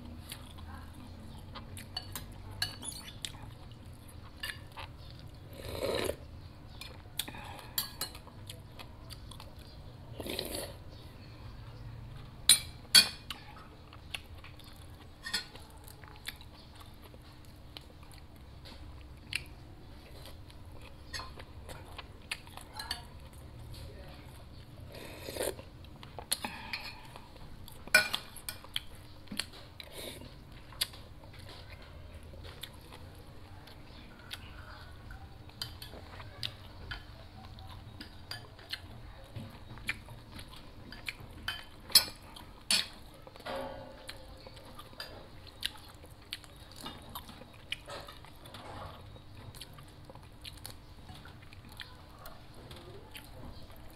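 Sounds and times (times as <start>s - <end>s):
quiet chewing: 0.0s - 53.9s.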